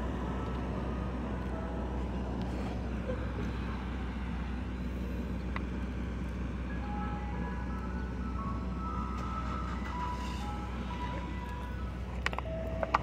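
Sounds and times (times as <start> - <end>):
street noise: 0.0 - 13.0
vehicle engine idling: 0.0 - 13.0.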